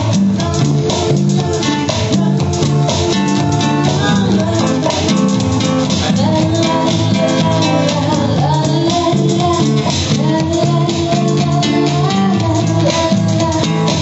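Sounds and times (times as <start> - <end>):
guitar trio music: 0.0 - 14.0.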